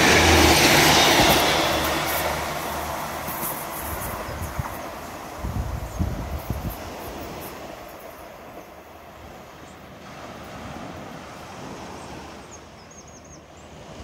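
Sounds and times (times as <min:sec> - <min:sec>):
train engine and wheels rumbling: 0:00.0 - 0:12.8
wind: 0:00.0 - 0:14.0.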